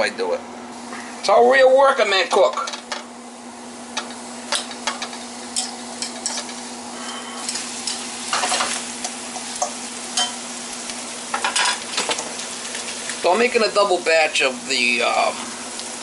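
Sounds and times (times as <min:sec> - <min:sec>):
onions sizzling in butter: 0:02.0 - 0:16.0.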